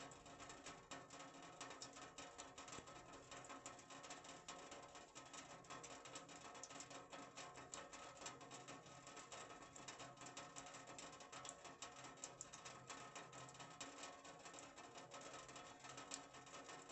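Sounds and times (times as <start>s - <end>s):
rain on a metal roof: 0.0s - 16.9s.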